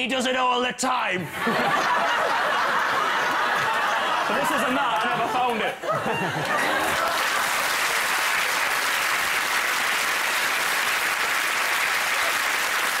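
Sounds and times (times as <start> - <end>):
audience applauding: 2.2 - 13.0.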